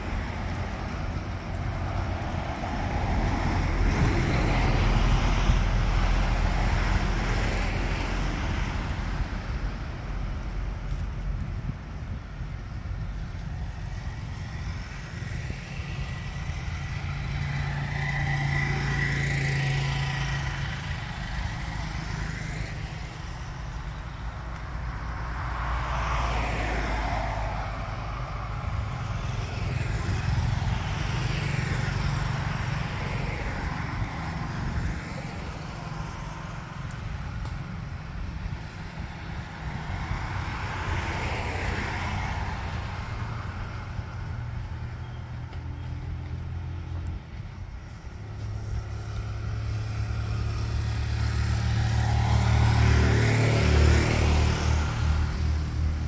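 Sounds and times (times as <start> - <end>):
steady low traffic rumble: 0.0 - 56.0
vehicles passing by: 0.0 - 56.0.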